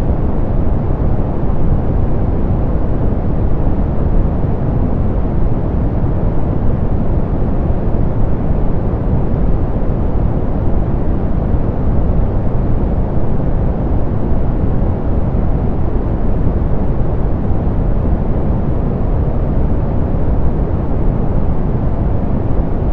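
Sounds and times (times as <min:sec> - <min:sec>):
low pink noise rush: 0:00.0 - 0:22.9.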